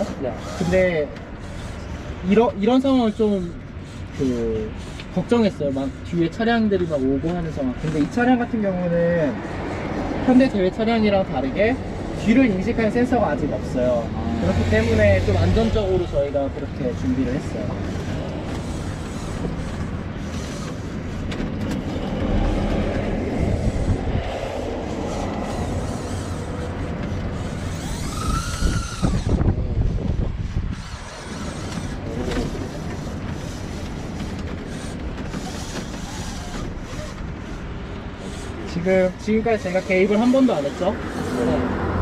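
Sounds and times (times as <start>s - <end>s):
road and wind rumble: 0.0s - 42.0s.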